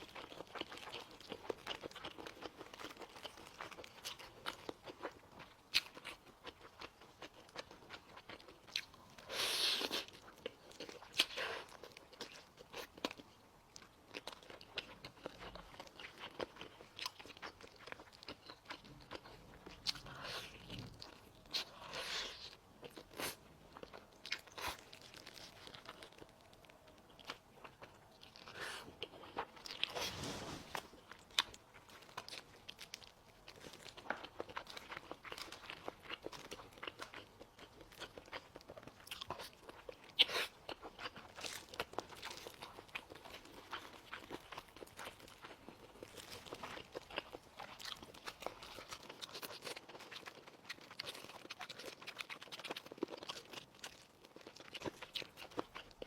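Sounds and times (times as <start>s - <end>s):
chewing with mouth clicks: 0.0s - 30.0s, 31.0s - 56.0s.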